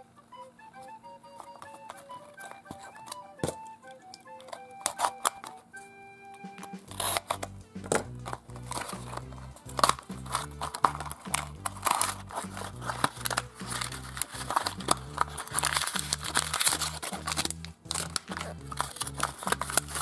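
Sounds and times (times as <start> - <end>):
background music: 0.0 - 20.0
packaging crinkling and rustling: 1.2 - 20.0.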